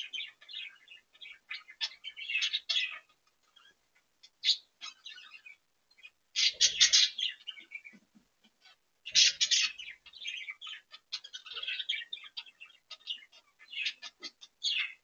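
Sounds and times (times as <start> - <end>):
budgerigars chirping and warbling: 0.0 - 15.0.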